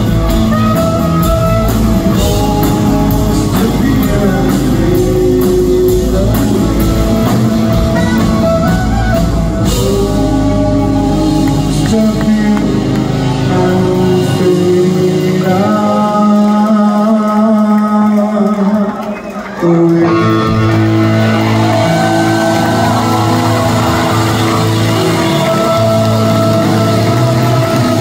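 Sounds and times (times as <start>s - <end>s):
drum kit: 0.0s - 18.5s, 20.5s - 28.0s
guitar: 0.0s - 28.0s
rock band playing live: 0.0s - 28.0s.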